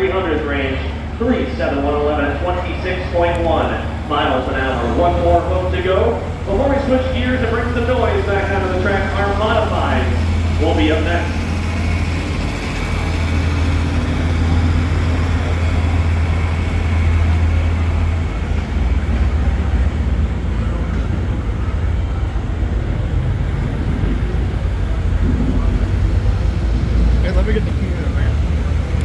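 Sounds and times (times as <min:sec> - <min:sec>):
heavy engines rumbling: 0:00.0 - 0:29.0.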